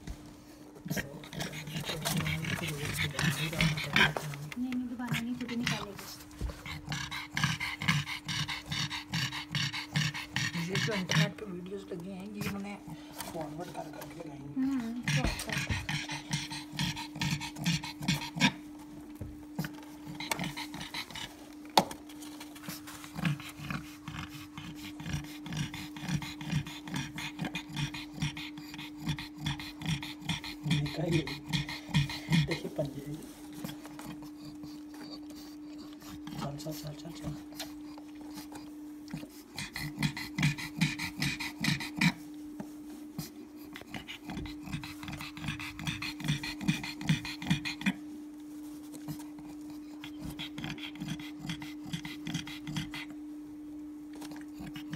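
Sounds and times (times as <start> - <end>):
dog panting quickly: 0.0 - 21.5, 22.2 - 48.1, 48.9 - 53.2, 54.2 - 54.9
steady low hum: 0.0 - 54.9.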